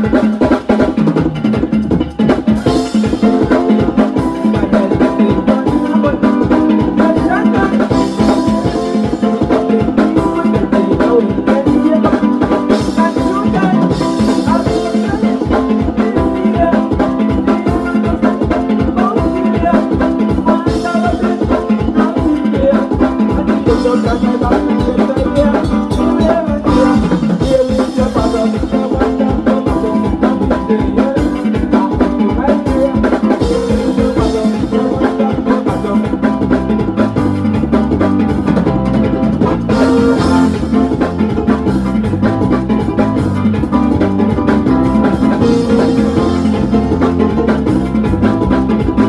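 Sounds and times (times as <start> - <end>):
drum kit and percussion beat: 0.0 - 49.0
heavy bass line: 0.0 - 49.0.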